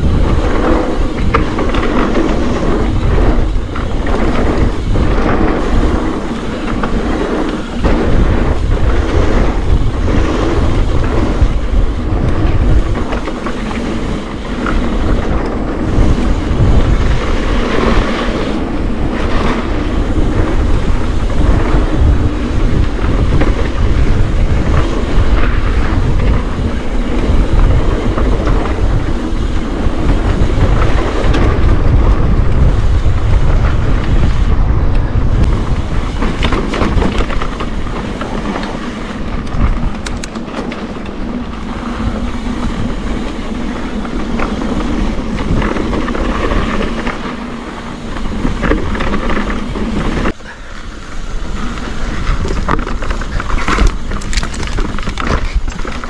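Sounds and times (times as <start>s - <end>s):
bike rattling over bumps: 0.0s - 56.0s
tyres rolling over dirt: 0.0s - 56.0s
wind rumbling on microphone: 0.0s - 56.0s.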